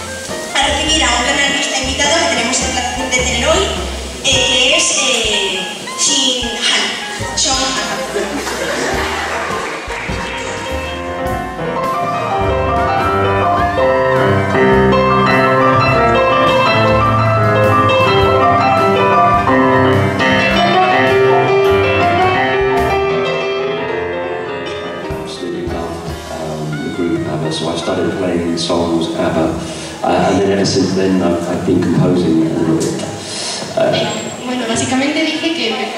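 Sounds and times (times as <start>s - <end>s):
electronic keyboard playing chords: 0.0s - 33.2s.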